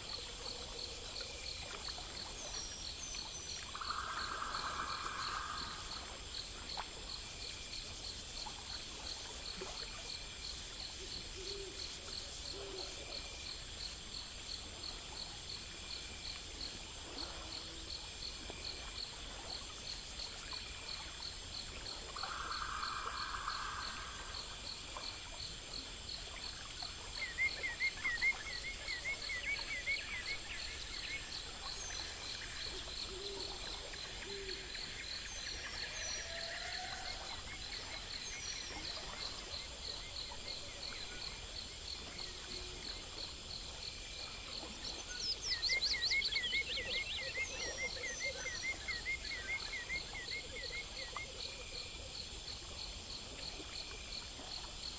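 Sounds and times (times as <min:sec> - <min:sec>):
insects chorus pulsing: 0:00.0 - 0:54.9.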